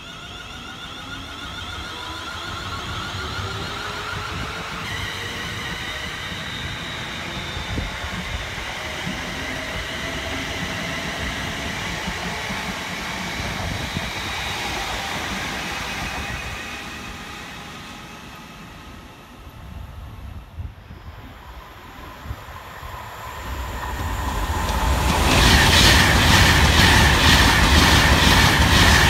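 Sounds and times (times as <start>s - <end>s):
electric train motors whining: 0.0s - 29.0s
wheels rumbling on rail: 0.0s - 29.0s.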